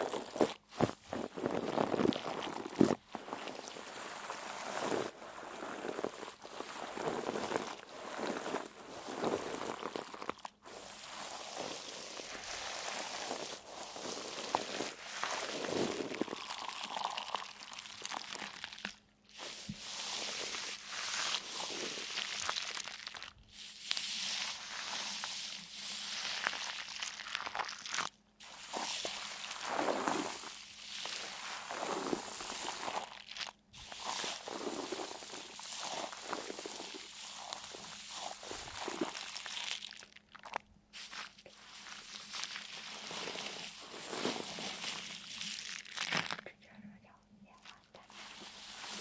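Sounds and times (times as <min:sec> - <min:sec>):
crunching and crinkling: 0:00.0 - 0:46.5, 0:47.6 - 0:49.0.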